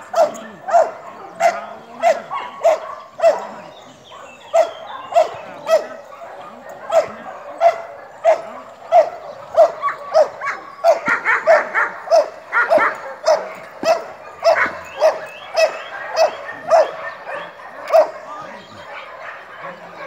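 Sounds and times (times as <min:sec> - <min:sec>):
dog barking: 0:00.0 - 0:20.0.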